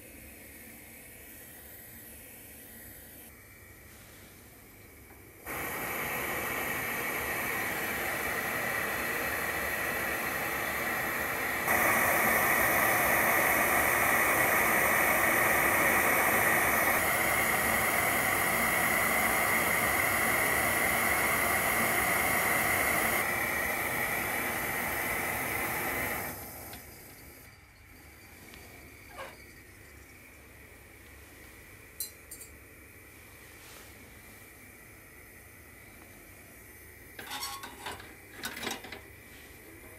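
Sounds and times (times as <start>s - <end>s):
kettle steam hissing: 0.0s - 39.9s.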